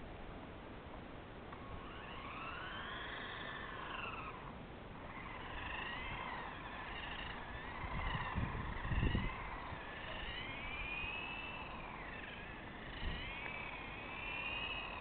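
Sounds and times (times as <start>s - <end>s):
remote-controlled car motor whining: 1.5s - 15.0s.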